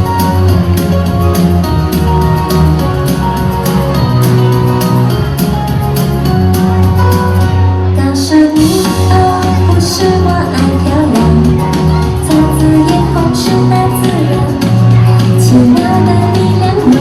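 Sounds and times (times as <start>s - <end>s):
upbeat song: 0.0s - 17.0s.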